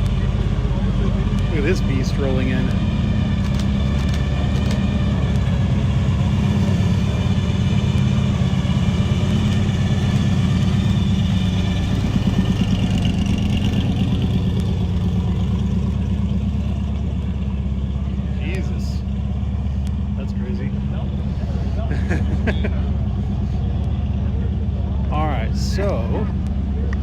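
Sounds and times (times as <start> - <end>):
pickup truck engine pulsing: 0.0 - 27.0.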